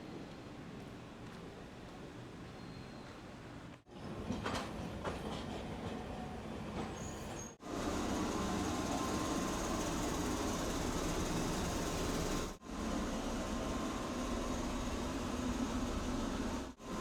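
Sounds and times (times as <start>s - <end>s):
streetcar running on rails: 0.0s - 17.0s.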